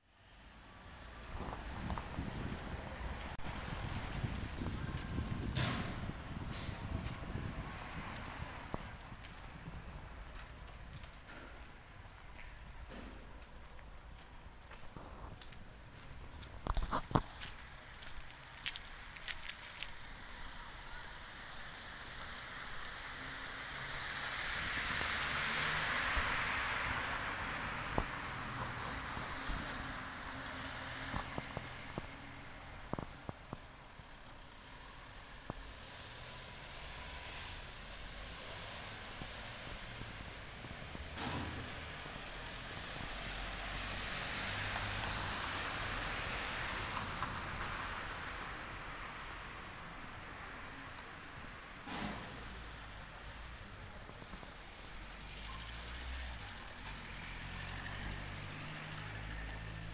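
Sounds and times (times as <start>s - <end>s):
road vehicle passing: 0.3s - 16.7s, 17.4s - 33.3s, 34.0s - 59.9s.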